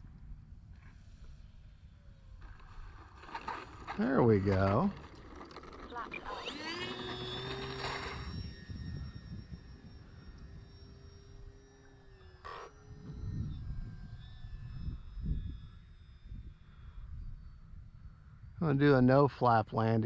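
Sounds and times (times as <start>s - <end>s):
wind rumbling on microphone: 0.0s - 11.0s, 12.9s - 19.0s
model plane motor whine: 0.2s - 19.2s.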